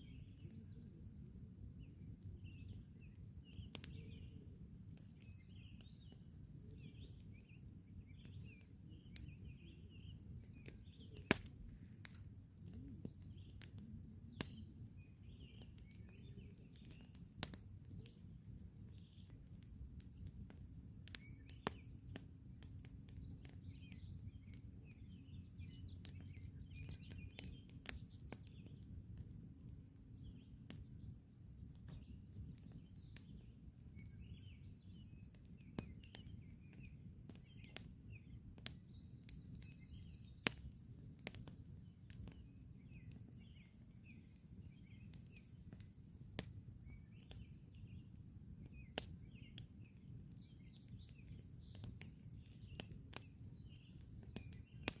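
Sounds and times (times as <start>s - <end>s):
campfire crackling: 0.0s - 55.0s
small birds chirping: 0.0s - 55.0s
burning wood popping: 2.4s - 55.0s.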